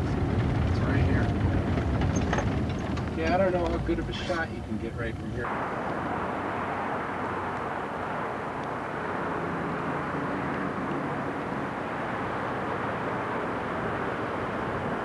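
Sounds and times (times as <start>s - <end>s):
road noise inside vehicle: 0.0s - 15.0s
vehicle engine: 0.0s - 15.0s.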